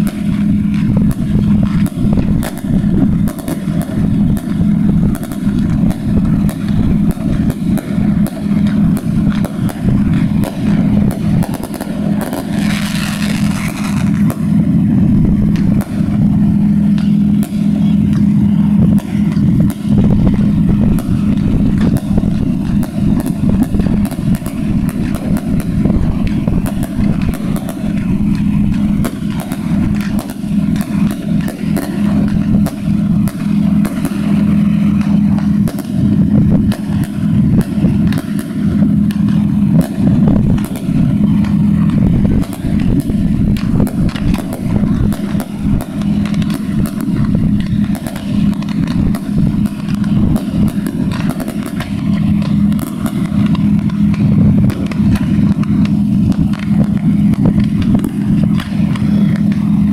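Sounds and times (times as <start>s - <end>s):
fireworks bangs and crackling: 0.0s - 59.9s
hissing rush: 0.0s - 59.9s
low hum: 0.0s - 59.9s.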